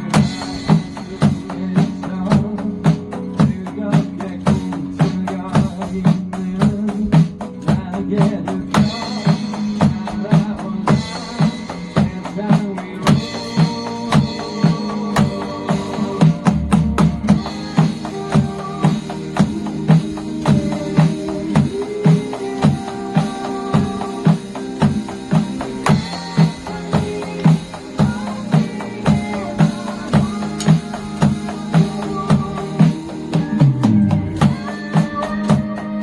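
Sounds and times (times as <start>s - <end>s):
drum kit playing: 0.0s - 36.0s
pop-rock song with singing: 0.0s - 36.0s.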